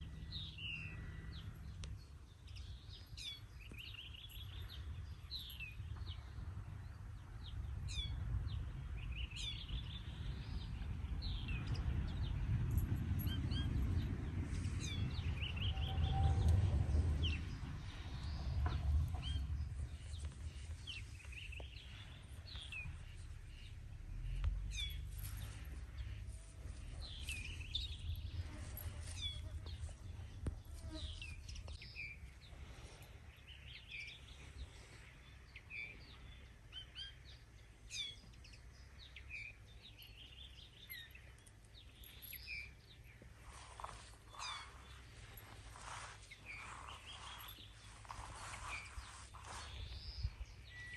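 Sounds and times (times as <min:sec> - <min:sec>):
low steady rumble: 0:00.0 - 0:36.7, 0:37.5 - 0:50.9
songbirds chirping and singing: 0:00.0 - 0:50.9.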